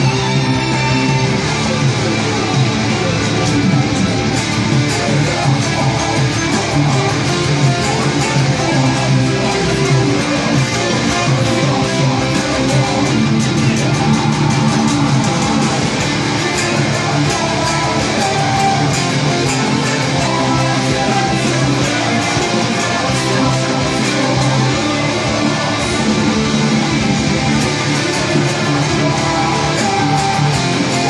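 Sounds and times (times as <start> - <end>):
distorted electric guitars: 0.0 - 31.0
drums: 0.0 - 31.0
metal band playing: 0.0 - 31.0.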